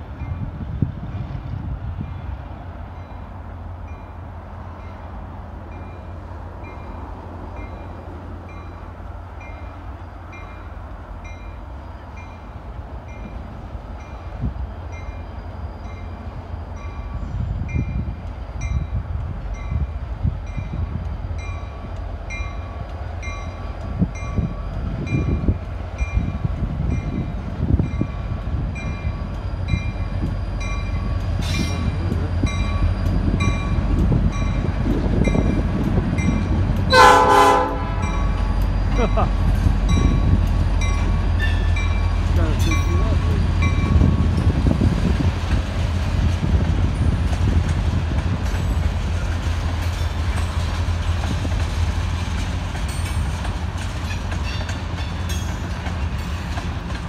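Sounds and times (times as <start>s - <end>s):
diesel locomotive engine rumble: 0.0s - 57.0s.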